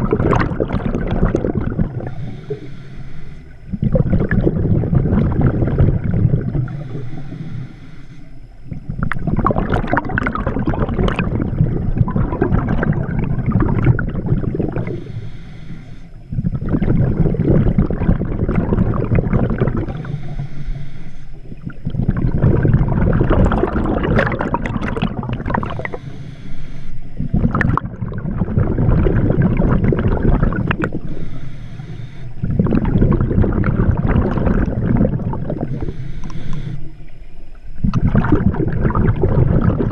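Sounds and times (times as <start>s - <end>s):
exhaled bubbles rushing: 0.0s - 7.4s, 8.4s - 15.2s, 16.2s - 20.6s, 21.4s - 26.2s, 27.1s - 31.2s, 31.8s - 39.9s
underwater regulator breathing: 0.0s - 9.2s, 10.6s - 27.8s, 28.4s - 37.2s.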